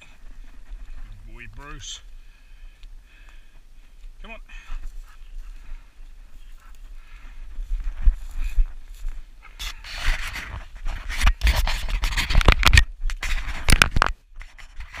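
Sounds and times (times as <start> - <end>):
footsteps: 0.0 - 2.2, 2.8 - 12.6
dry grass rustling and scraping: 0.0 - 15.0.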